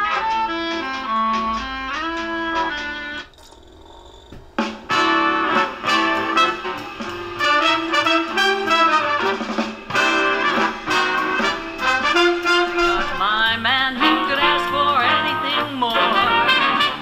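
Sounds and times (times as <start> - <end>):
music from small speakers: 0.0 - 3.2, 4.9 - 17.0.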